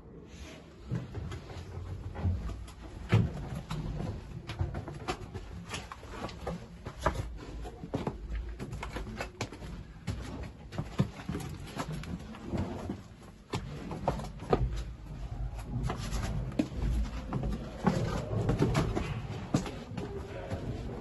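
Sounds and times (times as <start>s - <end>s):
scuffs and knocks of movement: 0.3s - 21.0s.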